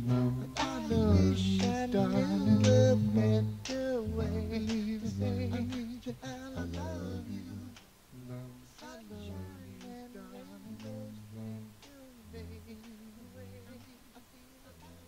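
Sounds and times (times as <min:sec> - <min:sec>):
person humming: 0:00.0 - 0:15.0
pop song: 0:00.0 - 0:15.0.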